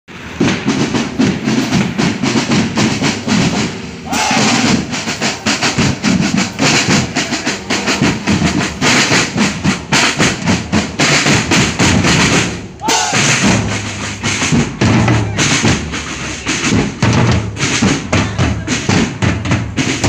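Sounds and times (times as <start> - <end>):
snare and bass drumline: 0.1 - 20.0.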